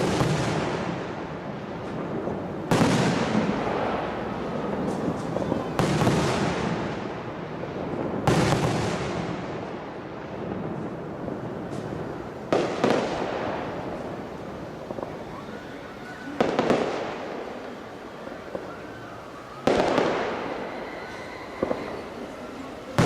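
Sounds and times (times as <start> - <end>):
firework shells booming: 0.0 - 22.3.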